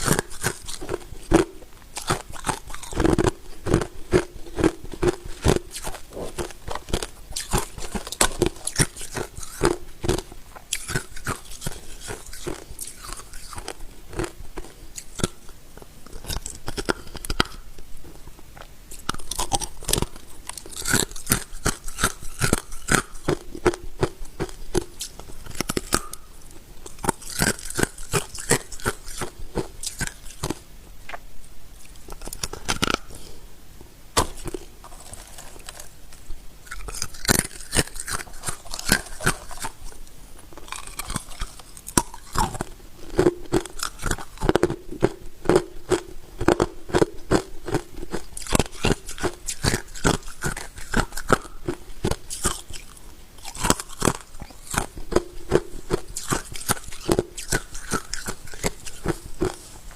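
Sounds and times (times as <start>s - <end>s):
person chewing ice: 0.0s - 17.8s, 18.6s - 31.2s, 31.8s - 33.4s, 34.2s - 59.9s.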